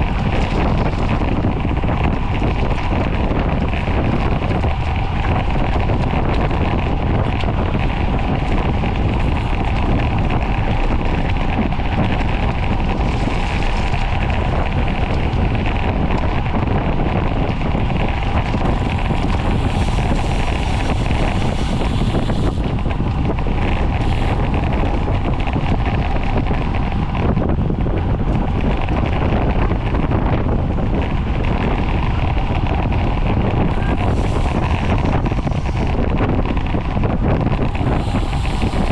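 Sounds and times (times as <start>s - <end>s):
faint steady whir: 0.0s - 38.9s
wind rushing over microphone: 0.0s - 38.9s.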